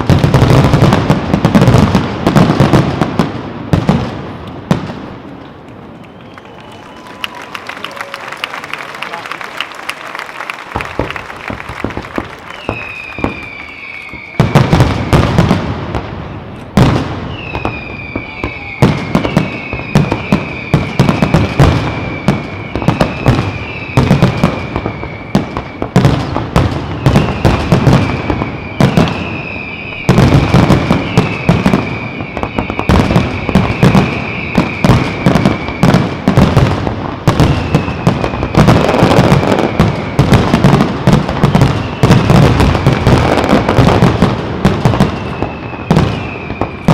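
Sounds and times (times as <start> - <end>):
fireworks bangs and crackling: 0.0 - 46.9
fireworks whistles: 0.0 - 46.9.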